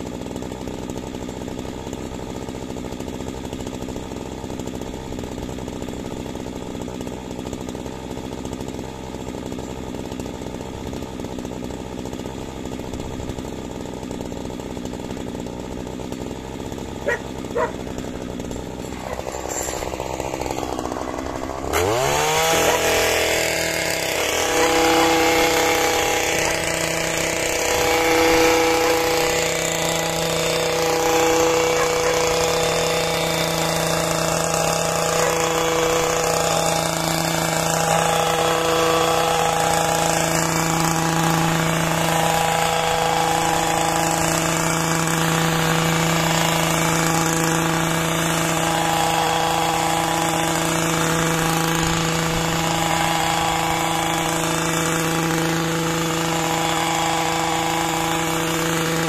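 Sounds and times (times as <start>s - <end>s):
hedge trimmer engine running: 0.0s - 59.0s.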